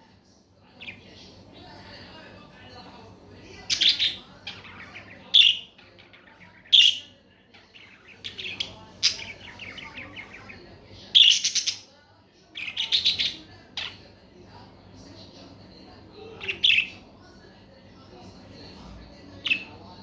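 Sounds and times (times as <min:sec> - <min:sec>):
quiet chattering warble: 0:00.0 - 0:20.0.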